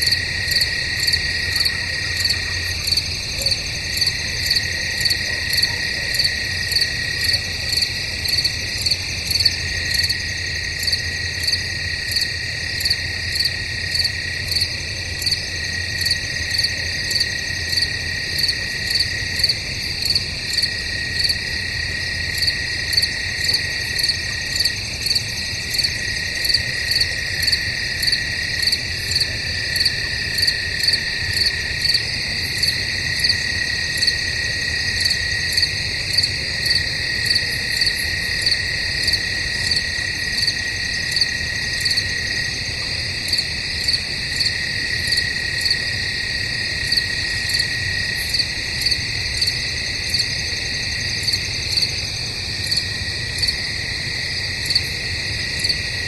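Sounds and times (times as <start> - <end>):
cricket chirping pulse: 0.0 - 56.0
crickets trilling: 0.0 - 56.0.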